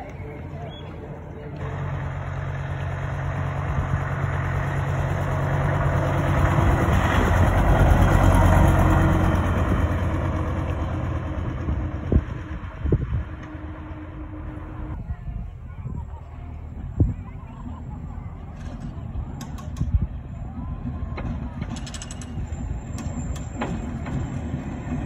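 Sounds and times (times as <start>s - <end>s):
bus engine driving past: 0.0s - 25.0s.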